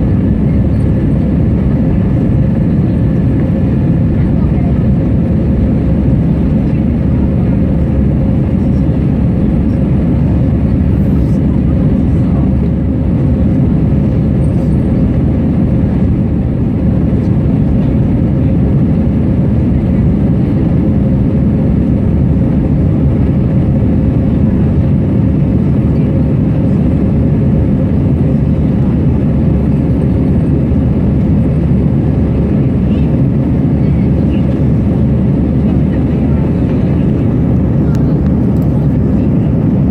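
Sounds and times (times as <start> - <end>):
jet engine and airflow rush: 0.0 - 39.9.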